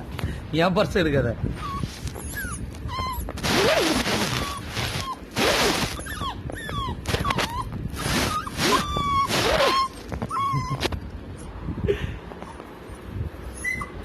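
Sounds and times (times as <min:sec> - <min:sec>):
puppy whimpering: 0:01.6 - 0:11.5, 0:12.4 - 0:14.0.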